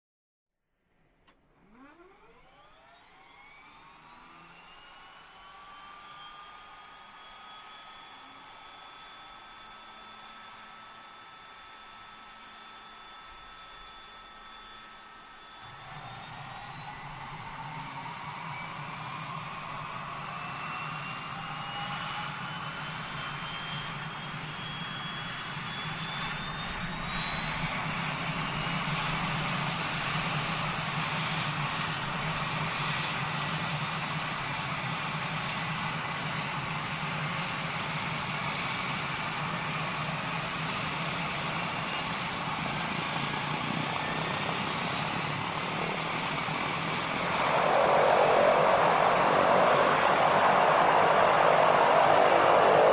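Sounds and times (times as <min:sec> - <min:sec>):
airplane engine whining: 0:03.8 - 0:52.9.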